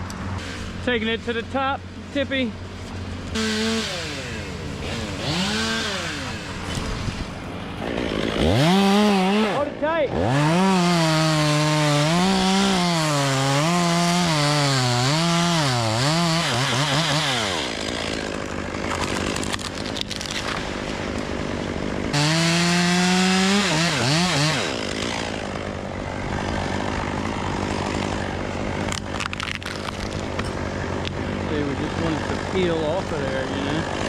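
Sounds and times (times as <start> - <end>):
chainsaw cutting wood: 0.3 - 1.0, 2.9 - 34.0.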